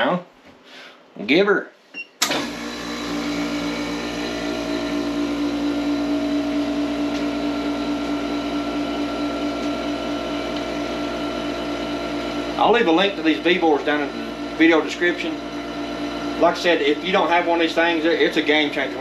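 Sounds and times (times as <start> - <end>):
vacuum pump humming: 2.2 - 19.0.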